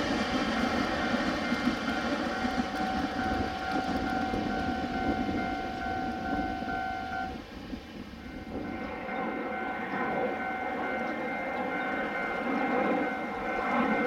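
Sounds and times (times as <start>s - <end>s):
train wheels rumbling on track: 0.0s - 14.0s
high ringing tone: 1.0s - 7.4s, 8.2s - 14.0s.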